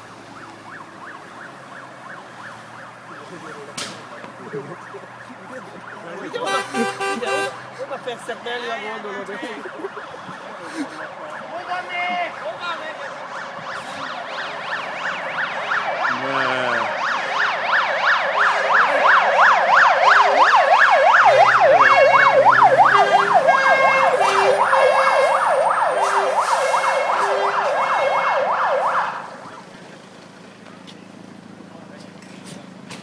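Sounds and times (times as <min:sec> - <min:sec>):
fire engine siren yelping: 0:00.0 - 0:07.9, 0:09.4 - 0:30.2.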